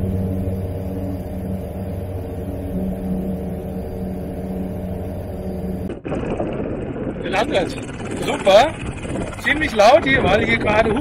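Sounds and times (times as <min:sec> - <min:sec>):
light aircraft engine drone in cabin: 0:00.0 - 0:11.0.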